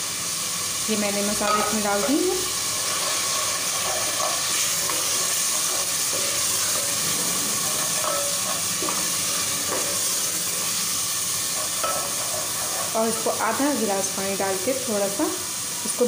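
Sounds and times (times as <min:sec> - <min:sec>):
spices sizzling in oil: 0:00.0 - 0:16.0.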